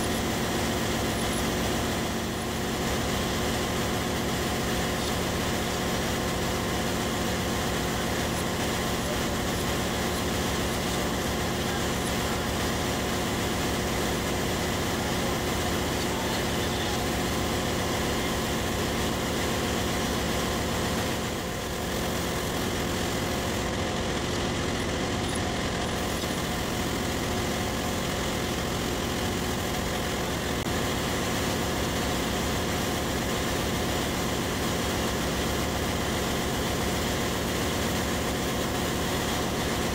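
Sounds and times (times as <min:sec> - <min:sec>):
engine-room machinery droning: 0:00.0 - 0:39.9.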